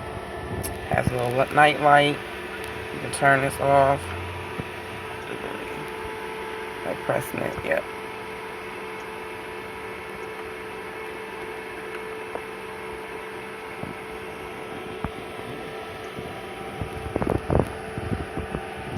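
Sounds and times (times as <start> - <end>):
cooler fan whirring: 0.0 - 18.9.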